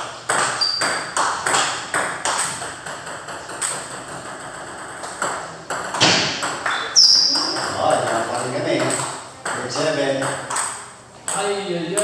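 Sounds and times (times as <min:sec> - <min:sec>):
table tennis balls clicking: 0:00.0 - 0:12.0.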